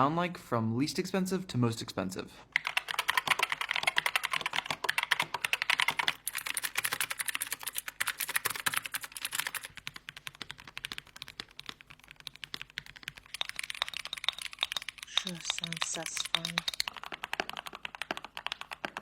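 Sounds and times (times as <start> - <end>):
fast typing on keyboards: 2.5 - 19.0.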